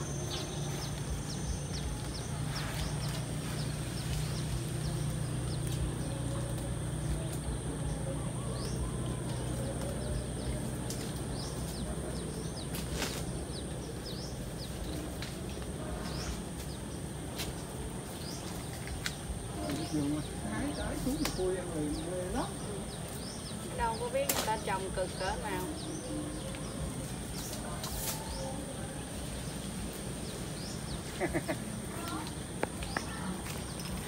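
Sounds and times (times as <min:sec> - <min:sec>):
birds chirping: 0:00.0 - 0:34.0
high insect whine: 0:00.0 - 0:34.0
low steady hum: 0:00.0 - 0:34.0.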